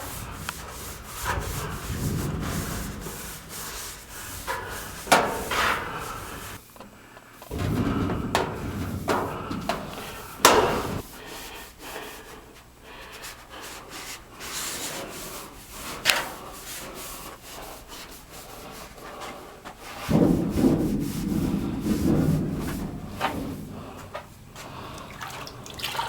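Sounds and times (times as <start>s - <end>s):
hand scrubbing sheet metal duct: 0.0s - 6.7s, 7.5s - 25.6s.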